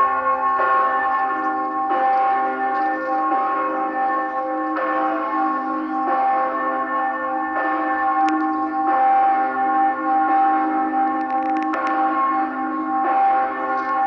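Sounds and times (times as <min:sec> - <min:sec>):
church bell ringing: 0:00.0 - 0:14.0.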